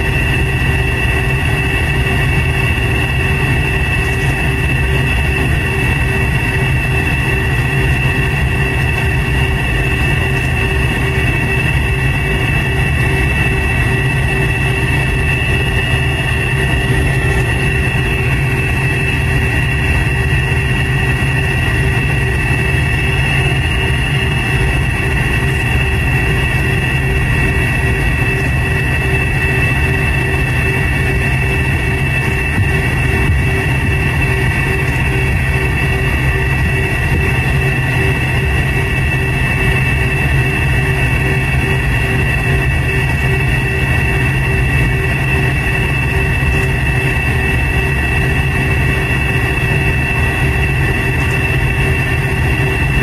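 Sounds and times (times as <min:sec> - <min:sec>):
jet engines rumbling and whining: 0:00.0 - 0:53.0.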